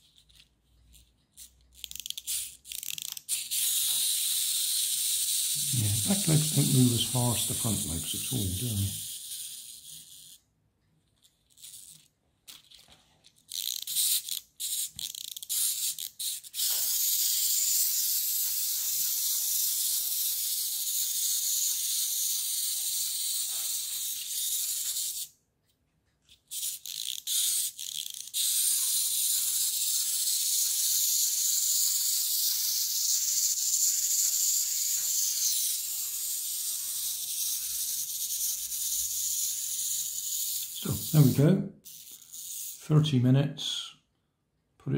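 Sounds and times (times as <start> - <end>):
clockwork motor whirring: 1.8 - 10.4, 13.5 - 25.3, 26.5 - 42.8.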